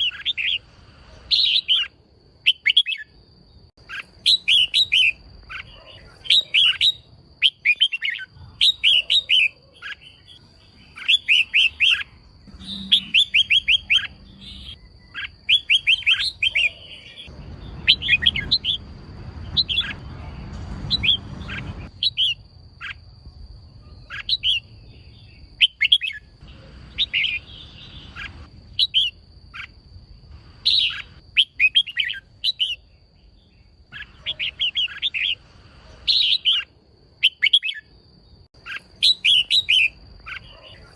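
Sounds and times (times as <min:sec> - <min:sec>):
bird chirping sharply: 0:03.8 - 0:23.0, 0:23.8 - 0:29.8, 0:30.6 - 0:35.4, 0:36.0 - 0:40.9.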